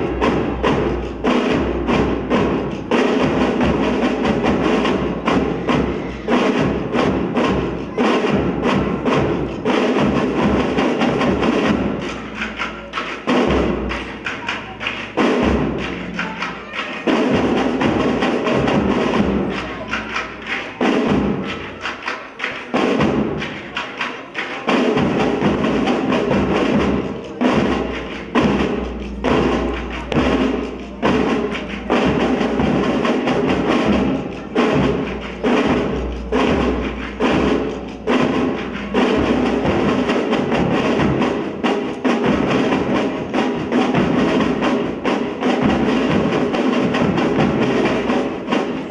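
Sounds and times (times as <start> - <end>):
drums beating: 0.0 - 48.9
pipe band playing: 0.0 - 48.9.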